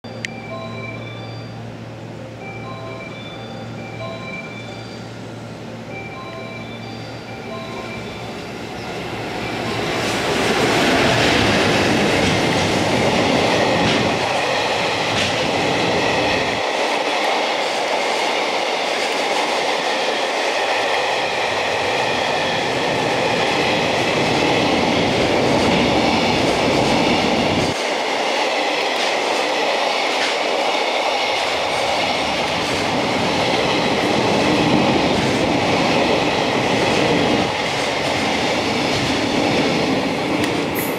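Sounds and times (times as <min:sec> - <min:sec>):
electric locomotive passing: 0:00.1 - 0:40.9
train wheels rumbling on rails: 0:03.8 - 0:40.9.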